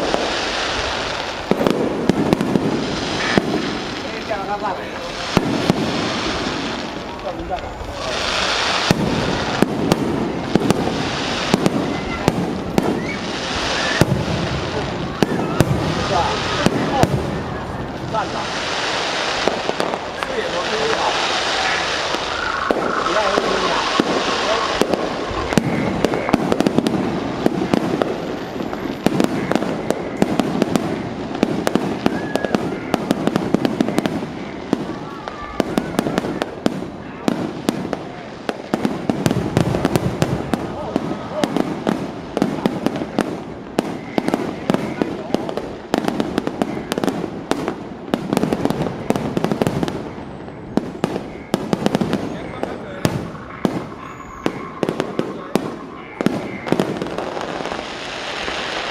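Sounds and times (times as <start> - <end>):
firework shells bursting bangs: 0.0 - 58.9
fireworks crackling hiss: 0.0 - 58.9.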